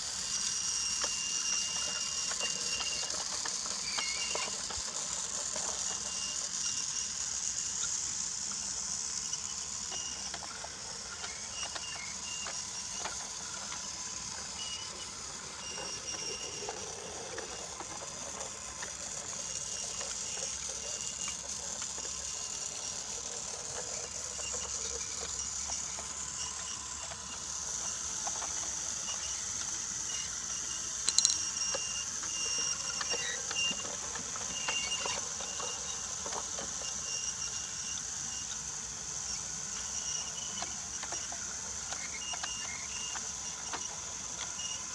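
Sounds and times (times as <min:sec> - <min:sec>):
toy train motor whirring: 0:00.0 - 0:44.9.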